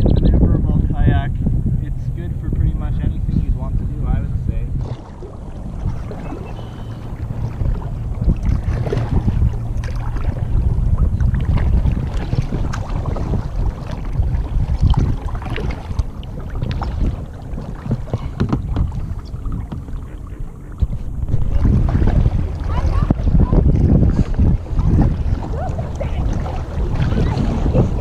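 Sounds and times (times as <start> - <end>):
wind rumble on microphone: 0.0 - 28.0
paddle splashing water: 3.4 - 28.0
short splashes and knocks: 4.7 - 28.0.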